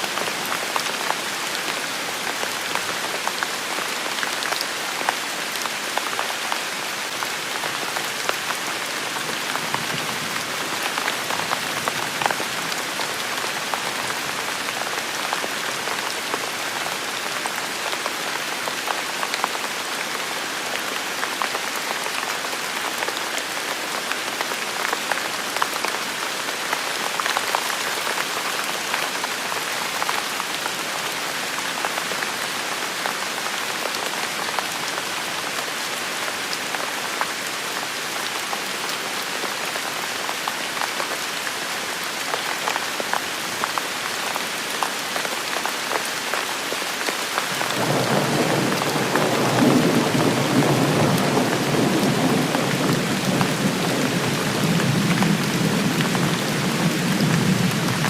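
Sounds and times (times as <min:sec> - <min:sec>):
rain pattering on hard surfaces: 0:00.0 - 0:58.0.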